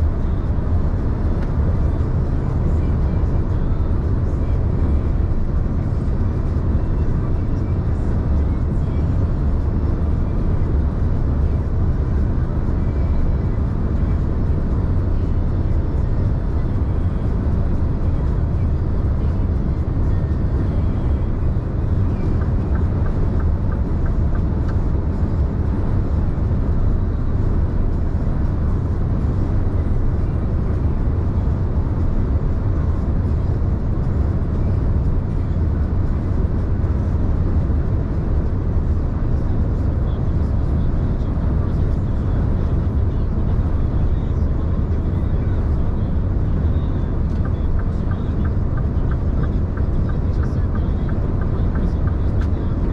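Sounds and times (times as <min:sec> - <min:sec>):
truck engine and road rumble: 0:00.0 - 0:52.9.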